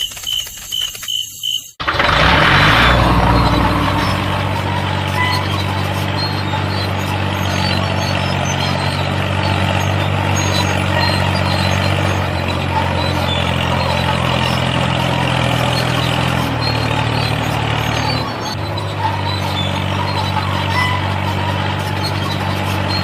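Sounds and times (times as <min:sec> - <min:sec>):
motor humming: 0:01.8 - 0:23.0.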